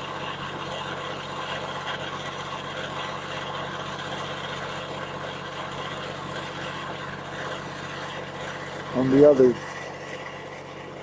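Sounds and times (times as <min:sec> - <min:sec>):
motor idling with low hum: 0:00.0 - 0:11.0.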